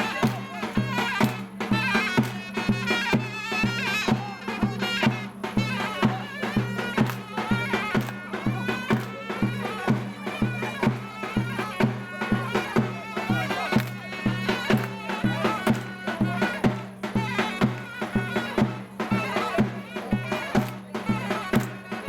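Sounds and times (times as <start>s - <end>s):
steady drum beat: 0.0s - 22.0s.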